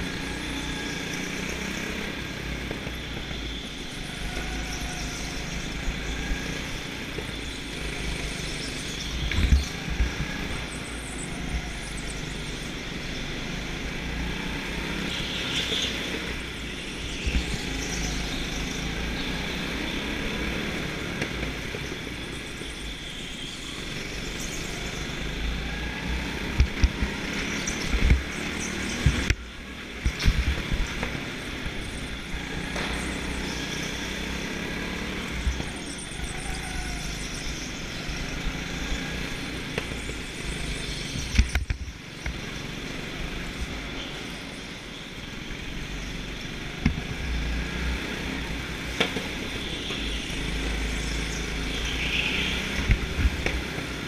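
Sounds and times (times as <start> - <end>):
go-kart motor and tyre noise: 0.0 - 54.0.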